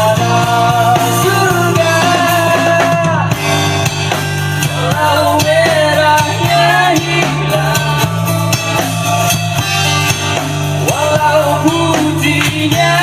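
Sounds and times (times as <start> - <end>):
bass line: 0.0 - 13.0
bending lead guitar melody: 0.0 - 13.0
drum kit beat: 0.0 - 13.0
rock band playing: 0.0 - 13.0.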